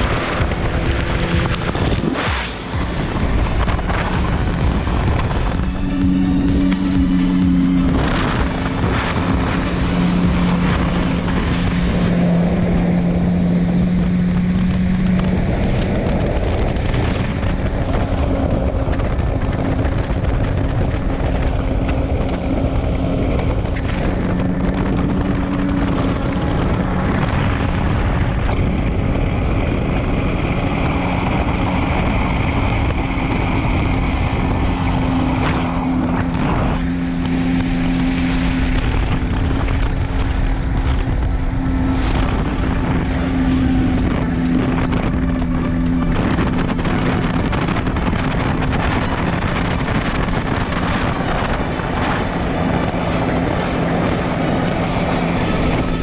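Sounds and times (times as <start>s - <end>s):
jet ski engine running: 0.0s - 56.0s
wind buffeting microphone: 0.0s - 56.0s.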